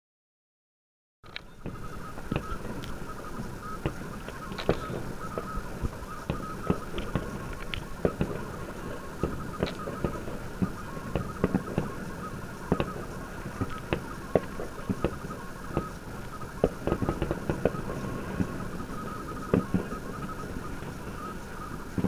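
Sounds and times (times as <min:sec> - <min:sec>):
steady background noise: 0:01.2 - 0:22.0
distant fireworks bangs and pops: 0:01.4 - 0:22.0.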